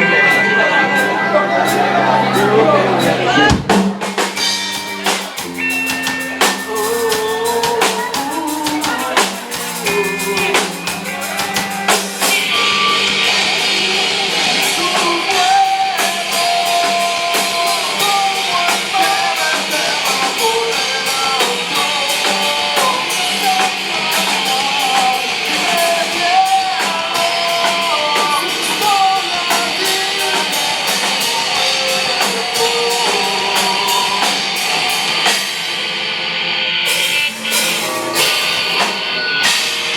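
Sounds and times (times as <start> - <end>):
heavy drums and cymbals: 0.0 - 39.9
live rock band playing: 0.0 - 39.9.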